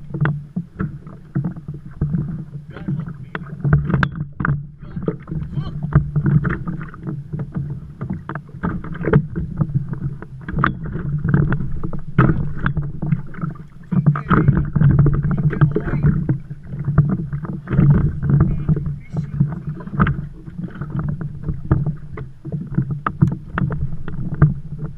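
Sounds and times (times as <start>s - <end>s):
knocks and splashes: 0.0s - 24.9s
water sloshing against plastic hull: 0.0s - 24.9s.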